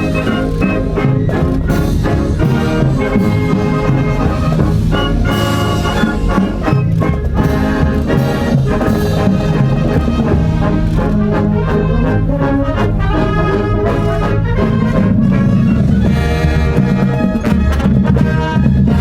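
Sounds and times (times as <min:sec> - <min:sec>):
brass and woodwinds playing: 0:00.0 - 0:19.0
steady drum beat: 0:00.0 - 0:19.0.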